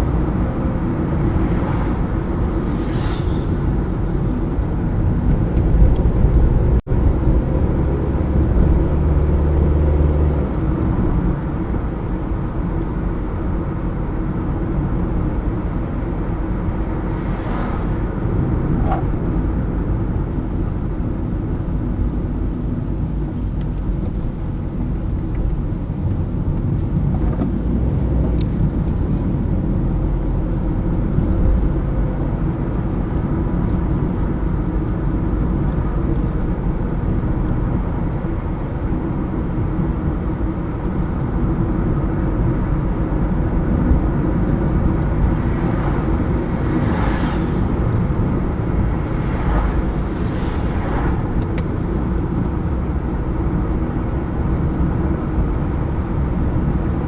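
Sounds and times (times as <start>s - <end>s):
passing traffic swish: 0.0s - 13.2s, 13.8s - 21.3s, 26.2s - 57.0s
car engine and tyre rumble: 0.0s - 57.0s.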